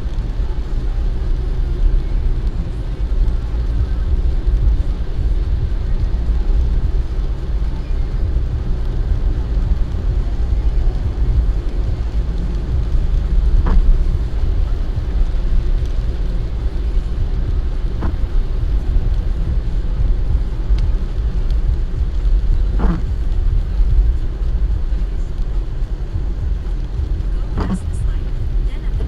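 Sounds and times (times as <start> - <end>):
car driving on wet road: 0.0 - 29.0.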